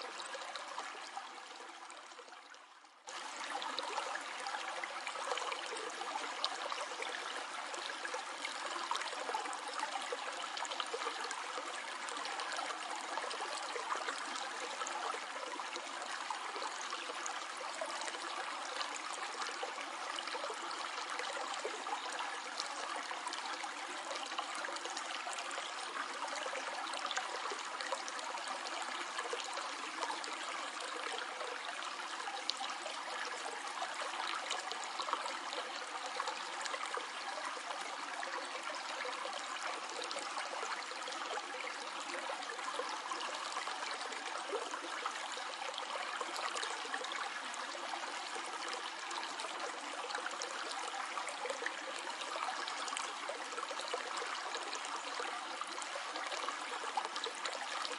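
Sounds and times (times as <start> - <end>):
stream water flowing: 0.0 - 57.9.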